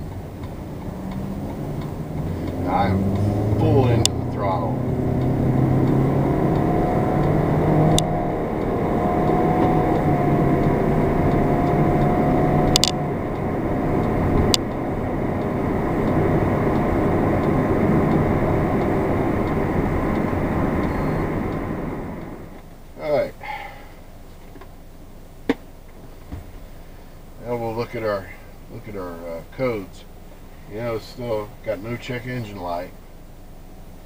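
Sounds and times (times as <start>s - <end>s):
car engine at full throttle: 0.0s - 34.0s
road noise: 0.0s - 34.0s.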